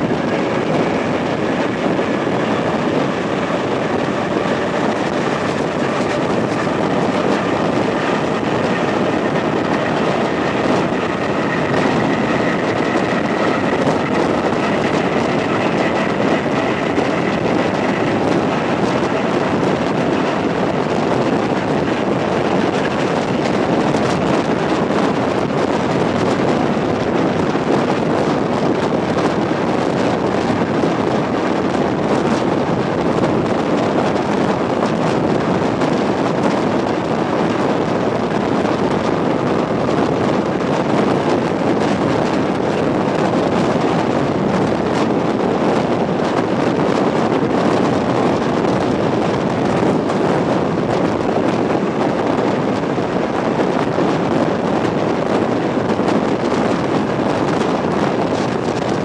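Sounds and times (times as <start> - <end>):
electric train running: 0.0 - 59.0.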